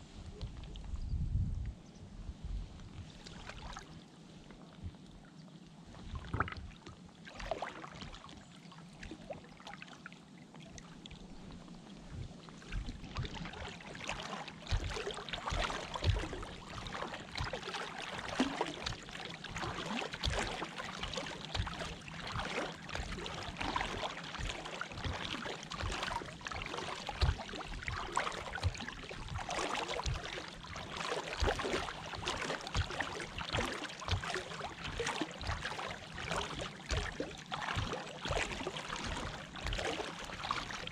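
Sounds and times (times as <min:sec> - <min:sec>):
water splashing around boat: 0:02.6 - 0:40.9.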